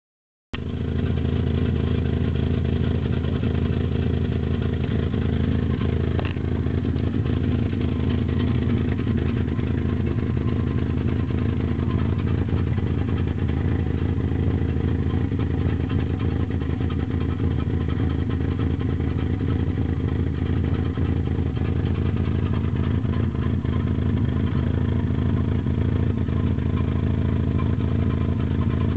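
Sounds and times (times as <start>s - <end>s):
vehicle engine running steadily: 0.6s - 28.9s.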